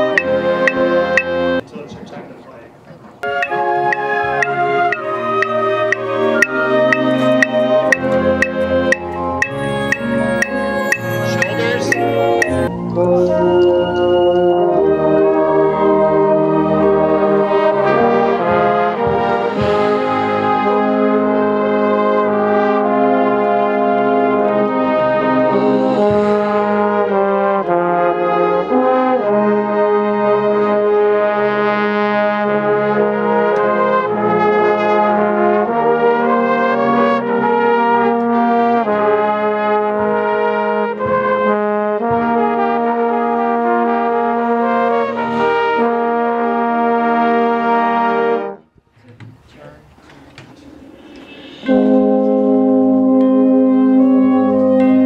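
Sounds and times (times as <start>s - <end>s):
marching band brass chords: 0.0s - 1.7s, 3.2s - 48.8s, 49.8s - 55.0s.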